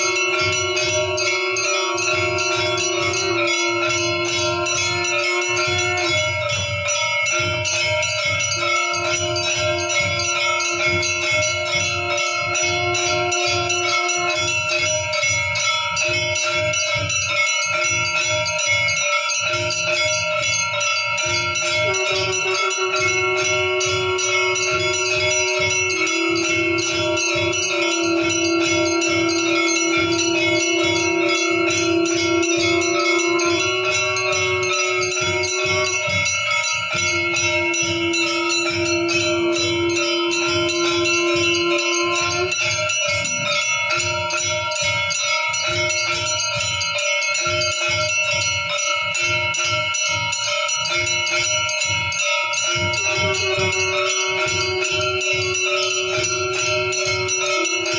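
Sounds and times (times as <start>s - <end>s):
low throb: 0.0s - 46.9s, 52.5s - 57.9s
bells ringing rapidly: 0.0s - 57.9s
held tone: 0.0s - 57.9s.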